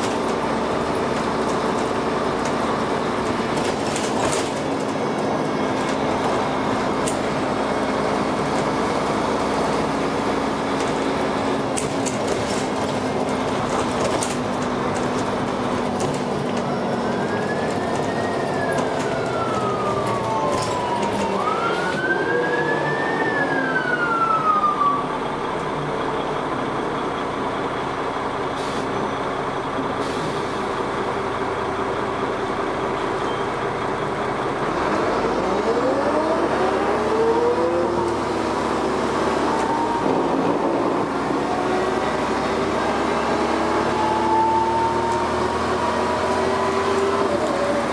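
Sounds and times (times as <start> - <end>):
bus engine running: 0.0 - 47.9
road noise: 0.0 - 47.9.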